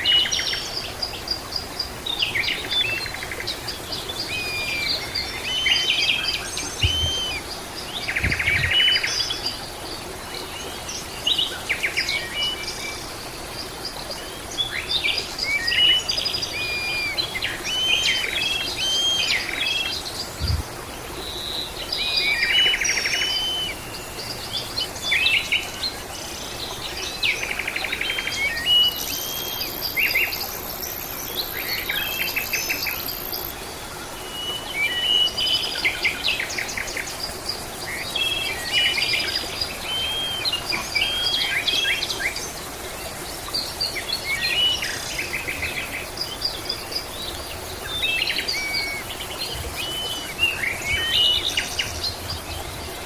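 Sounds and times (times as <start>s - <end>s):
wild birds chirping and whistling: 0.0s - 9.7s, 14.3s - 26.0s, 26.8s - 42.6s, 43.5s - 53.0s.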